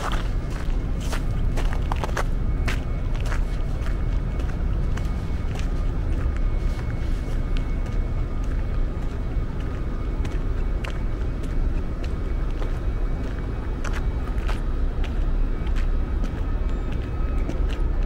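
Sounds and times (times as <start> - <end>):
faint steady hum: 0.0 - 18.0
road traffic rumble: 0.0 - 18.0.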